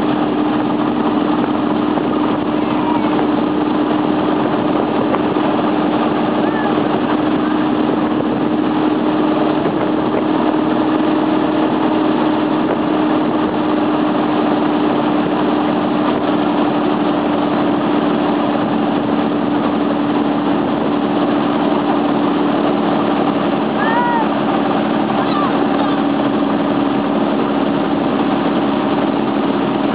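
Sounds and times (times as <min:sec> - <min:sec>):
motorboat engine droning: 0:00.0 - 0:29.9
wake churning water: 0:00.0 - 0:29.9.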